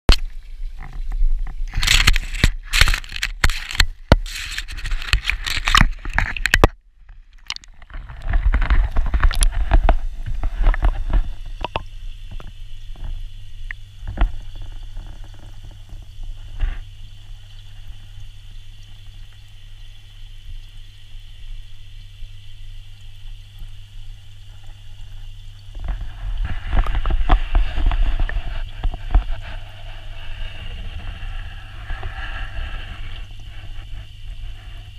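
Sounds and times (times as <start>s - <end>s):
faint underwater clicks: 0.1s - 34.8s
muffled underwater hum: 0.1s - 34.9s.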